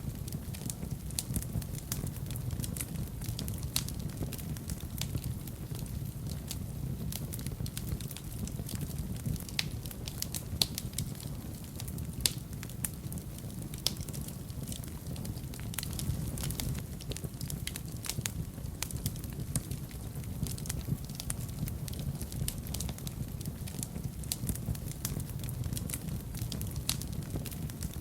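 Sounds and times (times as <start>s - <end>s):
low rumble of flames: 0.0s - 28.0s
wood fire crackling: 0.0s - 28.0s
sharp pops of fire: 0.2s - 28.0s.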